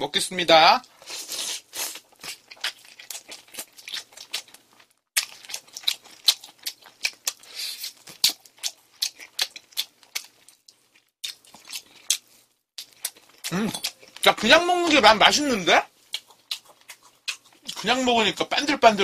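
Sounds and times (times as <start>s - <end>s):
crunching fried chicken: 0.8s - 19.0s.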